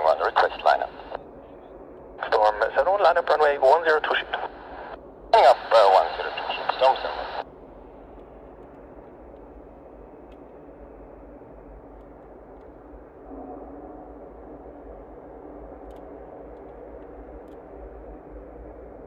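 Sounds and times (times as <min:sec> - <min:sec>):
distant jet engine drone: 0:00.0 - 0:19.0
distant rumble and hiss: 0:00.0 - 0:19.0.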